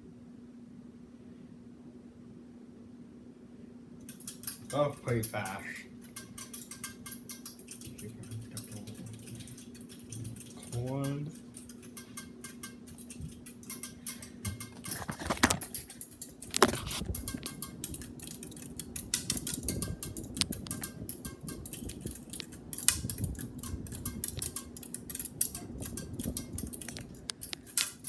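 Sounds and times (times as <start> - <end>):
ceiling fan motor hum: 0.0 - 28.0
fan clicks: 4.0 - 28.0
fast uneven ticking: 4.1 - 28.0.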